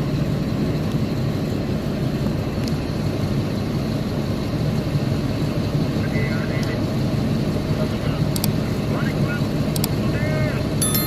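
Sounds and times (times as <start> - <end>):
heavy diesel machinery rumbling: 0.0 - 11.0.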